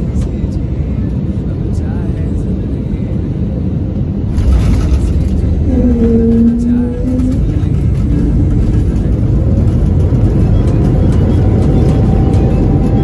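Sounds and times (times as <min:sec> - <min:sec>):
airliner landing rumble: 0:00.0 - 0:13.0.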